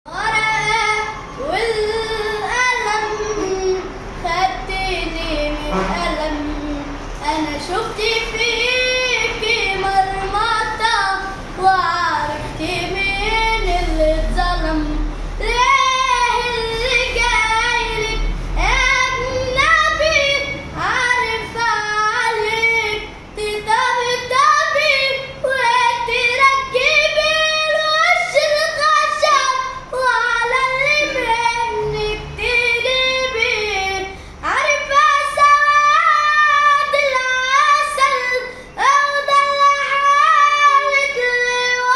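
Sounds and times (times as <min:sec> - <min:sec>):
child singing in a high voice: 0:00.1 - 0:41.9.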